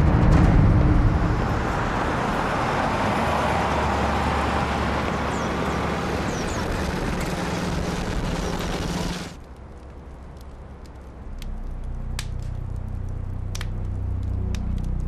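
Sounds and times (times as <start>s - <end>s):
background music drone: 0.0s - 15.0s
low vehicle hum: 0.0s - 15.0s
traffic noise: 0.0s - 15.0s.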